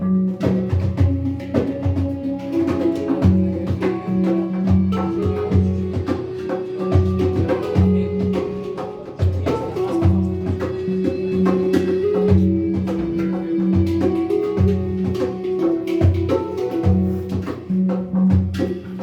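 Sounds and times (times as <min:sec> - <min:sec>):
handpan notes ringing: 0:00.0 - 0:19.0
pimak played by hand: 0:00.0 - 0:19.0.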